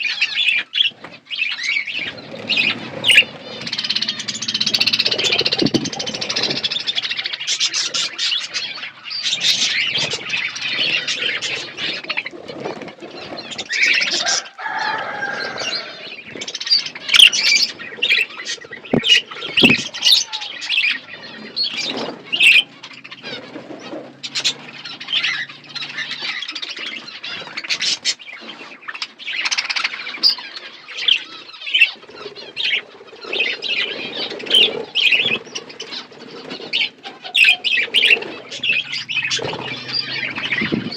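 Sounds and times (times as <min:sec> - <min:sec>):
budgerigars chirping: 0:00.0 - 0:14.5, 0:15.3 - 0:40.9.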